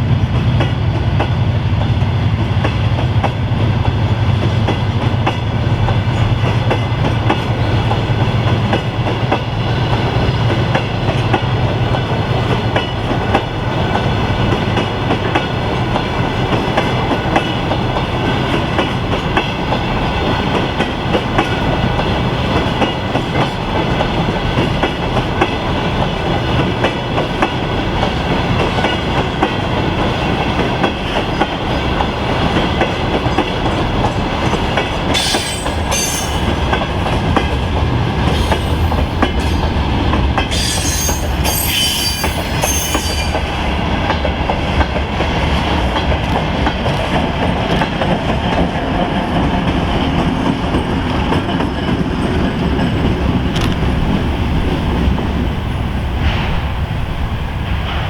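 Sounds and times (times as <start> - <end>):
train wheels clattering over rail joints: 0.2 - 55.0.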